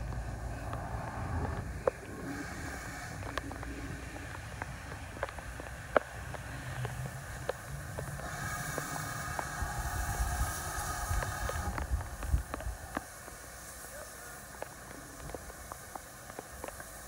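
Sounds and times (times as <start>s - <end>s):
raindrops dripping: 0.0s - 17.0s
steam locomotive hiss: 0.0s - 17.0s
steam locomotive rumbling: 0.0s - 17.0s.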